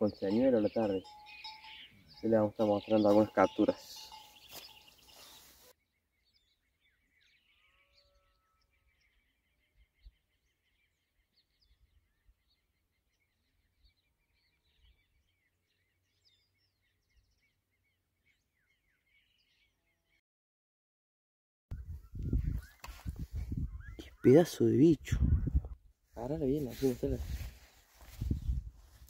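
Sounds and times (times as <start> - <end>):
longer bird calls: 0.0 - 20.2, 21.7 - 25.5
small birds chirping: 0.0 - 20.2, 21.7 - 29.0.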